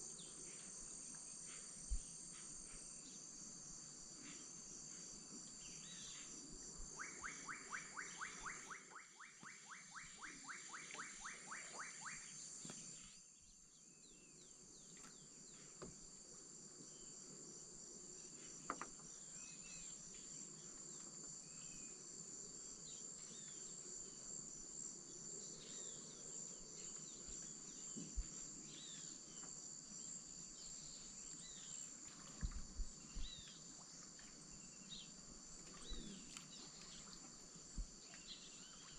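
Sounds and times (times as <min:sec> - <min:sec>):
insects trilling: 0:00.0 - 0:38.9
rapid repeated insect calls: 0:00.0 - 0:38.9.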